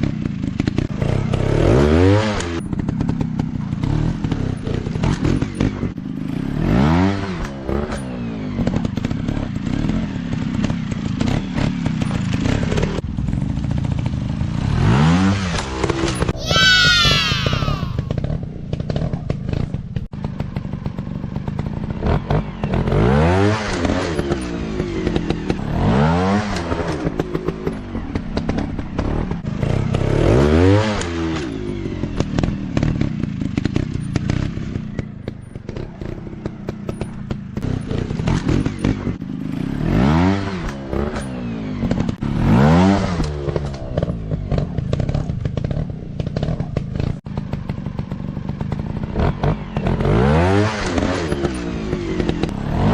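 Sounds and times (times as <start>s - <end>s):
dirt bike engine revving: 0.3s - 20.7s, 21.4s - 52.9s.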